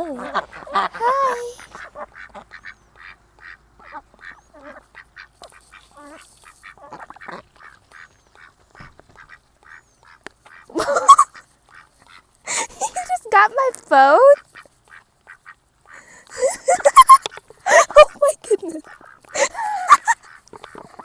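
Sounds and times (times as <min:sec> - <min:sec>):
ducks quacking: 0:00.0 - 0:13.4, 0:14.2 - 0:21.0.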